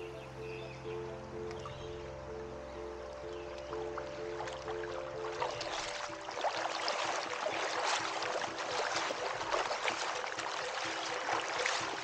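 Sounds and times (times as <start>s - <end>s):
paddle water splashing: 1.4s - 12.0s.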